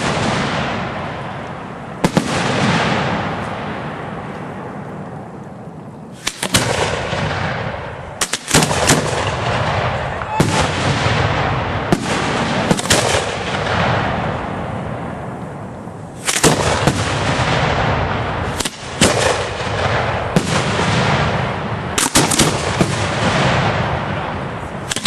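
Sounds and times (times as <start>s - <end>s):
fireworks bangs: 0.0s - 5.4s, 6.0s - 25.0s.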